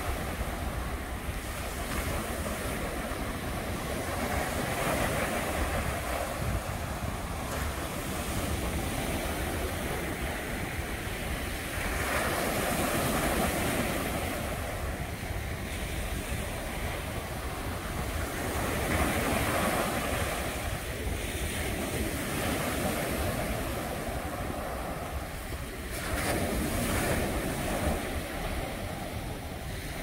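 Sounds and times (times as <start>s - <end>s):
wind: 0.0s - 30.0s.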